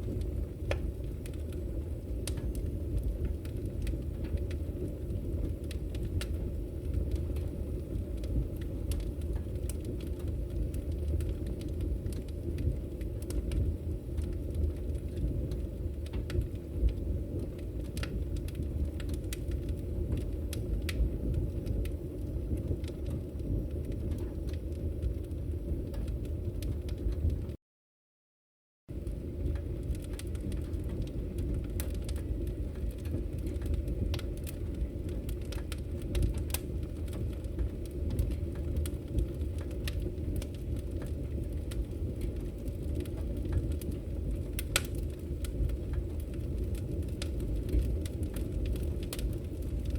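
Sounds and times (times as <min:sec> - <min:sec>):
fire flames rumbling: 0:00.0 - 0:27.6, 0:28.9 - 0:49.9
logs crackling and popping: 0:00.0 - 0:27.6, 0:28.9 - 0:49.9.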